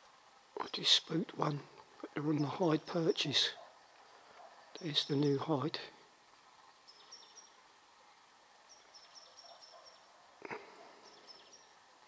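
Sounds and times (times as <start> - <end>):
small birds chirping: 0.6 - 5.8, 6.6 - 7.8, 8.6 - 12.0.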